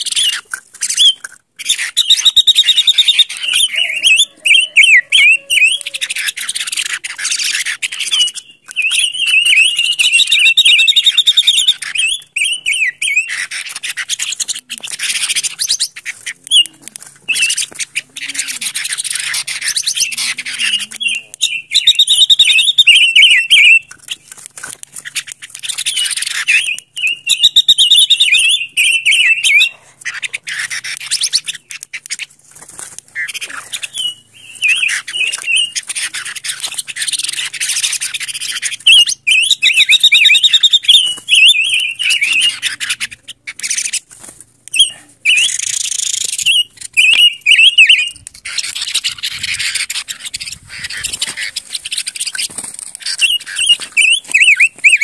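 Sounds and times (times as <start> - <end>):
bird singing warbled phrases: 0.0 - 55.0.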